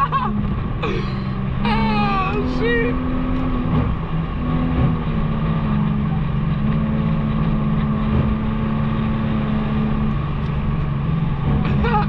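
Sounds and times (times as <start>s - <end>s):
car engine exhaust drone: 0.0s - 12.0s.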